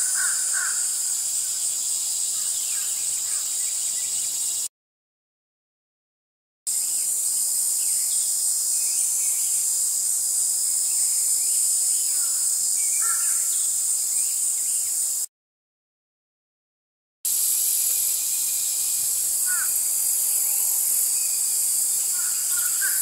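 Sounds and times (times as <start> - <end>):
cicadas singing: 0.0 - 4.7, 6.7 - 15.3, 17.3 - 23.0.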